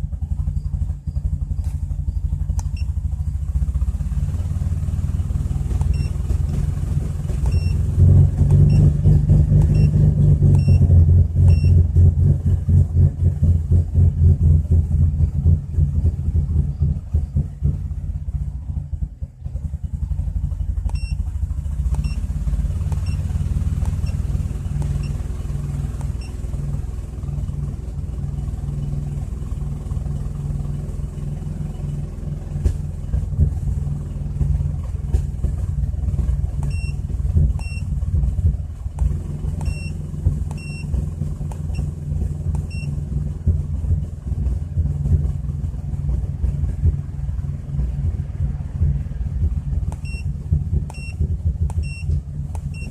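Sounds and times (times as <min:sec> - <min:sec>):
car engine idling roughly: 0:00.0 - 0:52.9.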